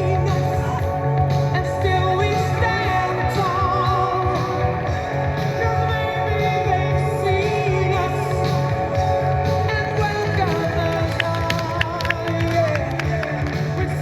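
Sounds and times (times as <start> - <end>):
song with band: 0.0 - 14.0.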